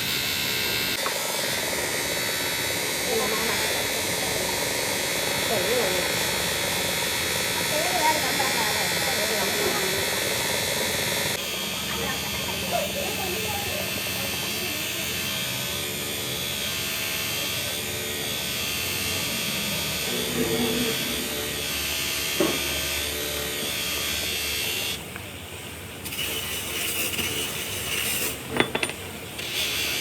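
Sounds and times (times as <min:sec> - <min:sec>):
workshop machinery whining: 0:00.0 - 0:30.0.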